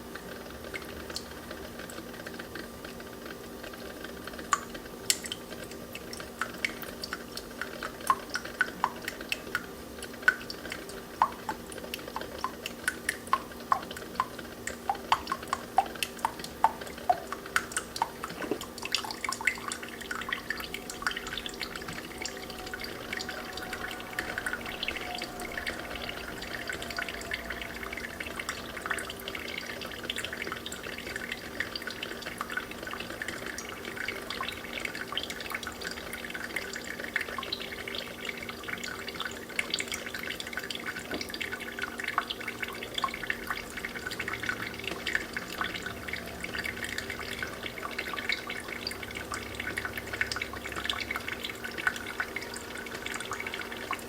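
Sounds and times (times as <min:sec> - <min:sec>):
faint steady hum: 0:00.0 - 0:54.0
coffee dripping into glass pot: 0:04.4 - 0:54.0.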